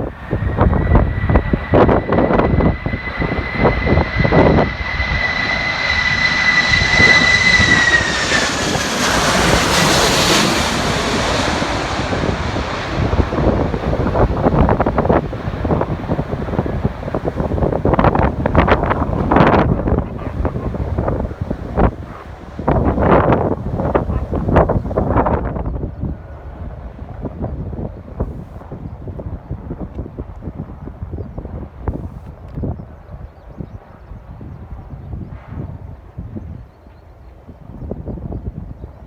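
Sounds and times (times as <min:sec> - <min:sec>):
jet airliner passing: 0:00.0 - 0:36.7
wind buffeting microphone: 0:00.0 - 0:39.0.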